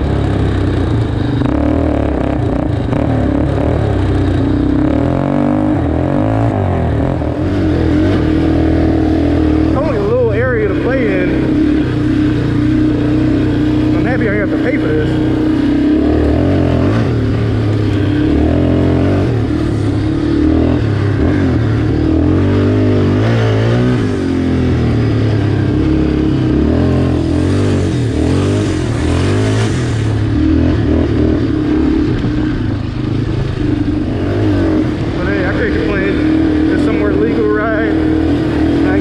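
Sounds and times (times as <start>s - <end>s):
atv engine revving: 0.0s - 39.0s.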